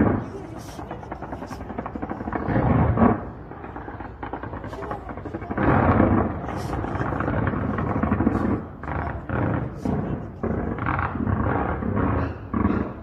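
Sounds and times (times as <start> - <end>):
fireworks bursts and crackling: 0.0 - 13.0
low rumble: 0.0 - 13.0.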